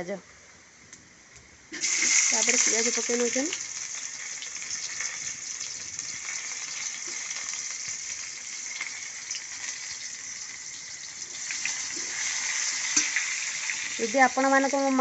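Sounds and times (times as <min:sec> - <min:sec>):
onion sizzling in hot oil: 0:01.7 - 0:15.0.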